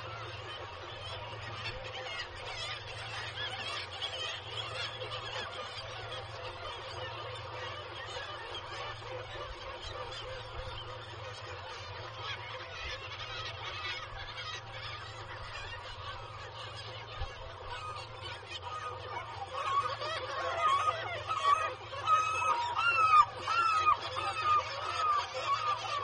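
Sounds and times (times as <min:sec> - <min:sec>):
nasal bird calls: 0:00.0 - 0:26.0
seabird colony calling: 0:00.0 - 0:26.0.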